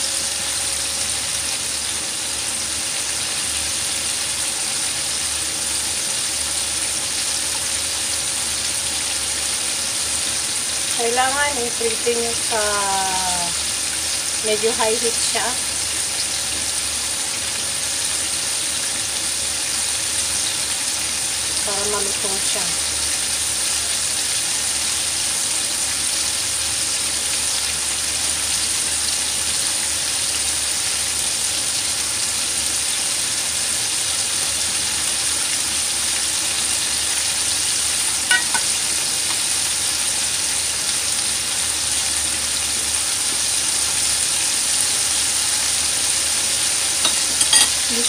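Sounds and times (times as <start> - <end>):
chicken deep-frying in oil: 0.0 - 48.0.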